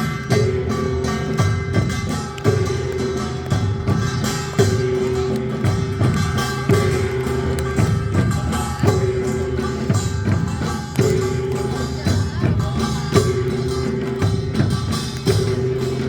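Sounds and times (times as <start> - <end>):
folk percussion beat: 0.0 - 16.0.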